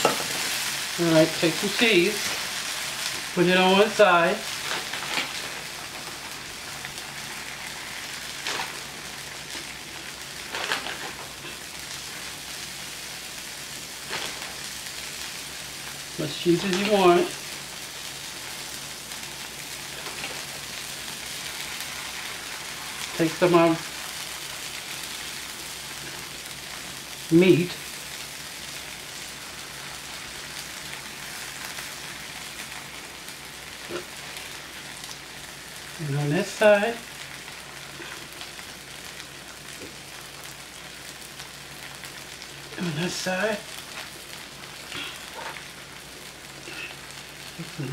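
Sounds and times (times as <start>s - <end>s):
tortillas sizzling on griddle: 0.0s - 47.9s.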